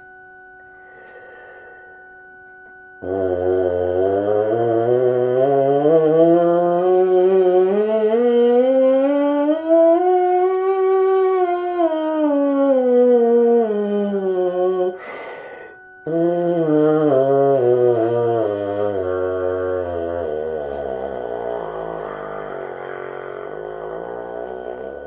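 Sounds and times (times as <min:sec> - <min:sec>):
buzzing trombone mouthpiece: 0:03.0 - 0:25.0.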